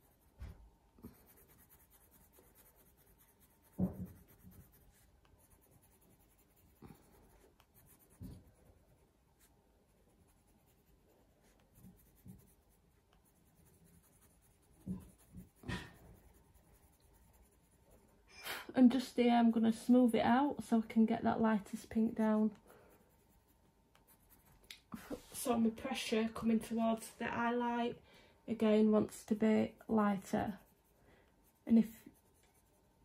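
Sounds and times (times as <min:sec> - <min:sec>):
pencil scratching on paper: 0:00.0 - 0:18.3, 0:21.0 - 0:26.1, 0:28.5 - 0:33.0.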